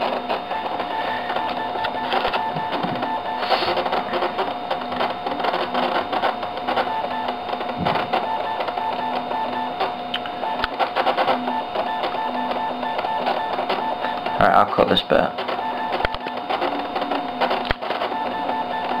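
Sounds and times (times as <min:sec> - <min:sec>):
computer drives whirring: 0:00.0 - 0:19.0
rapid mechanical clicking: 0:00.0 - 0:19.0.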